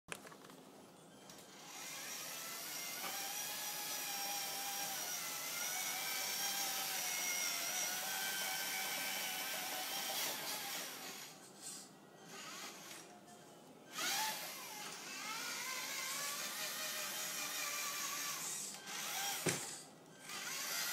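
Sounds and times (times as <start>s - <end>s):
toy truck electric motor whining: 1.3s - 13.1s, 13.9s - 20.9s.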